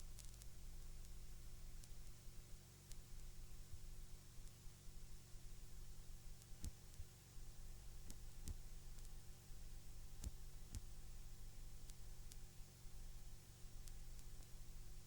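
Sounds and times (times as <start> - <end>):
tape hiss: 0.0 - 15.0.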